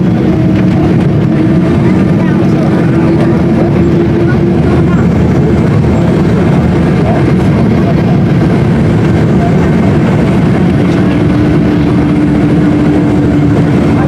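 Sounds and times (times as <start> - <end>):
aircraft engines and airflow: 0.0 - 14.0
steady hum: 0.0 - 14.0.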